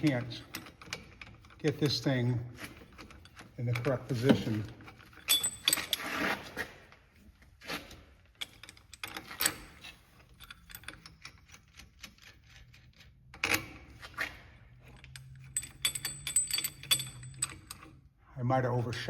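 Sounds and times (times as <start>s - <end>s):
metal tool clinking: 0.0s - 6.4s, 8.4s - 18.0s.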